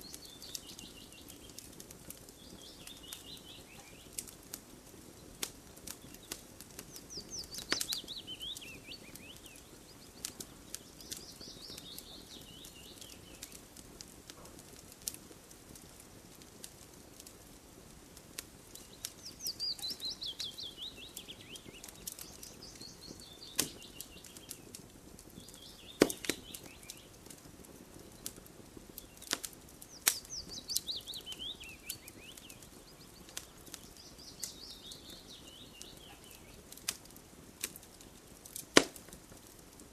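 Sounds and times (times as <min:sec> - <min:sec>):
campfire crackling and popping: 0:00.0 - 0:39.9
low steady hiss: 0:00.0 - 0:39.9.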